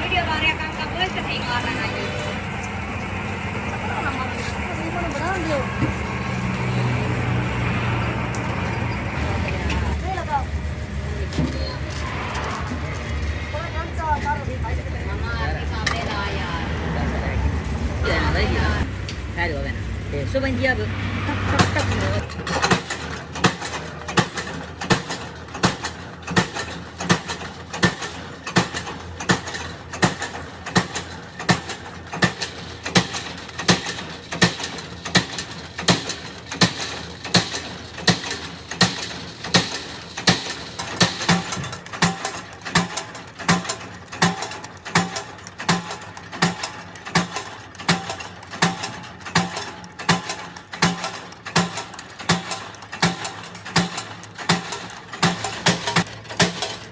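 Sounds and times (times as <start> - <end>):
regular mechanical knocking: 0.0 - 14.0, 21.4 - 56.9.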